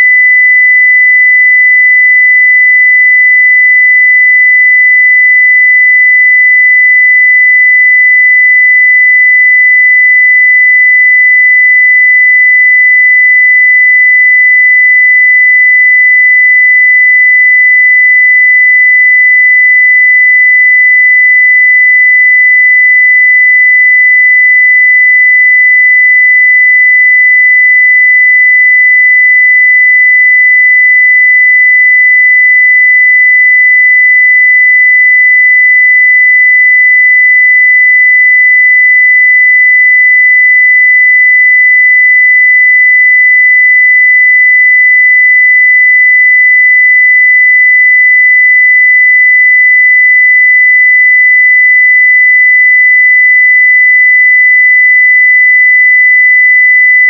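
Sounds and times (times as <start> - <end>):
sine-wave test tone: 0.0 - 57.0.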